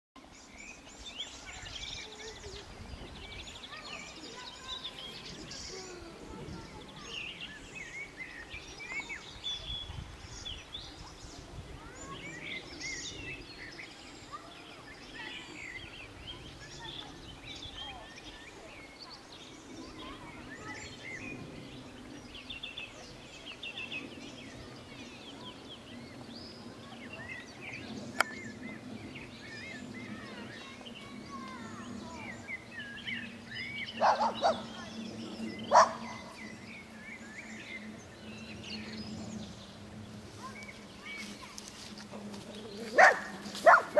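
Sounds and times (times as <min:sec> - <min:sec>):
small birds chirping: 0:00.2 - 0:43.9
songbirds singing: 0:00.2 - 0:43.9.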